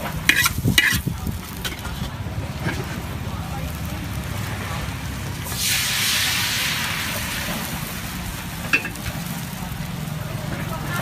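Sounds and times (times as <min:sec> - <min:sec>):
food sizzling on a pan: 0:00.0 - 0:11.0.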